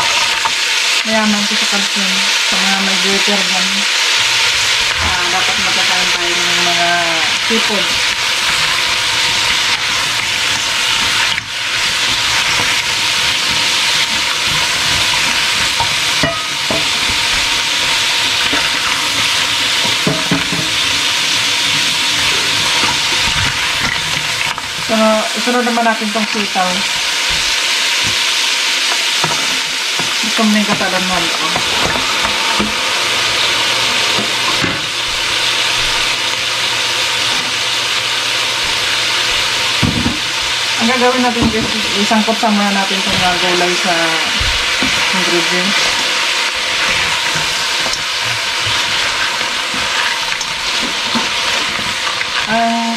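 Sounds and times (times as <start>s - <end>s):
food sizzling in a wok: 0.0s - 52.9s.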